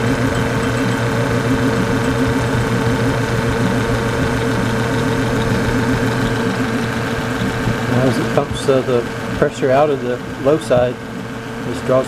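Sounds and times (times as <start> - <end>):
refrigerator compressor humming: 0.0 - 12.0.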